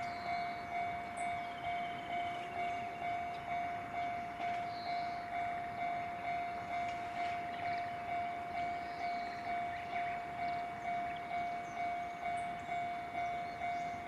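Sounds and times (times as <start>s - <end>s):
level crossing warning bell ringing: 0.0s - 14.0s.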